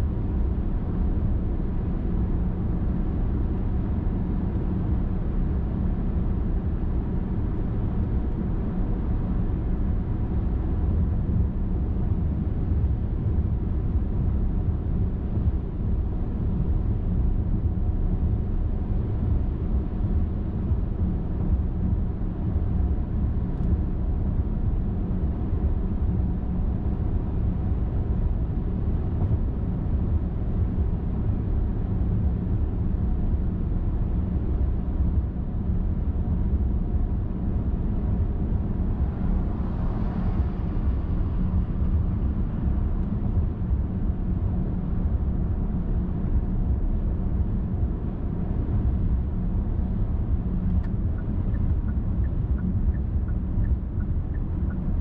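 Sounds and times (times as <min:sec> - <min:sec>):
car driving on highway: 0:00.0 - 0:55.0.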